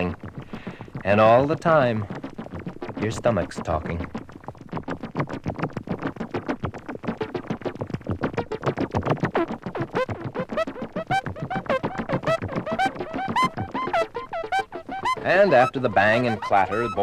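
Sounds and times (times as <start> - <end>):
synthesizer music: 1.0 - 17.0.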